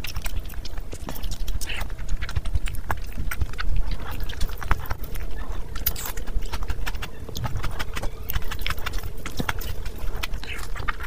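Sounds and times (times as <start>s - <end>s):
wet chewing and lip-smacking: 0.0s - 11.0s.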